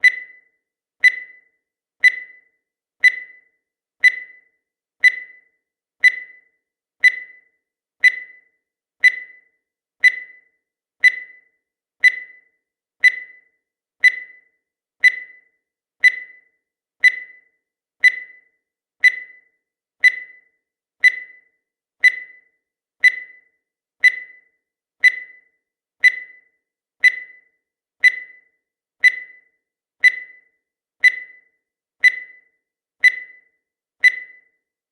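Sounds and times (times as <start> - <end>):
timer ticking: 0.0 - 34.7.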